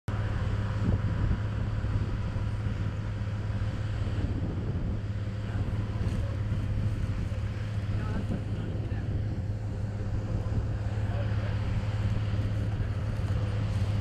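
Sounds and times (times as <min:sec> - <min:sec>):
wind blowing across microphone: 0:00.1 - 0:14.0.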